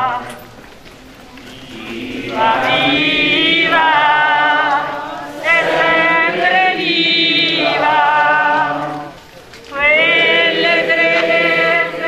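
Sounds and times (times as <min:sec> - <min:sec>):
group singing religious chant: 0:00.0 - 0:00.5, 0:01.4 - 0:12.0.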